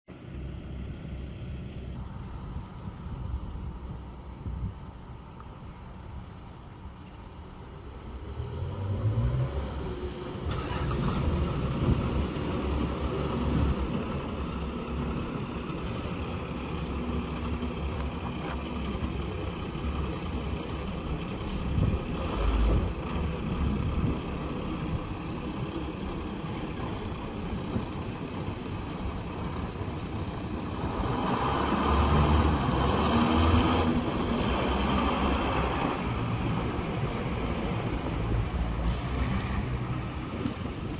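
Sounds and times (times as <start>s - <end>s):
diesel bus engine running: 0.1s - 40.9s.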